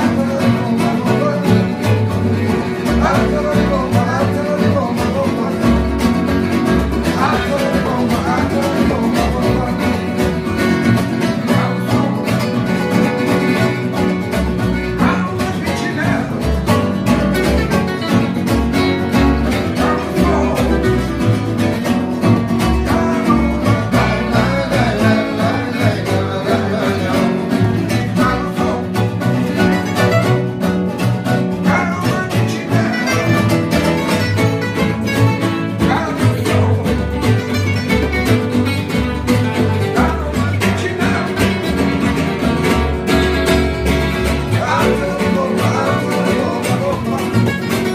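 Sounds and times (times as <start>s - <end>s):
acoustic guitars strumming: 0.0s - 47.9s
plucked double bass: 0.0s - 47.9s.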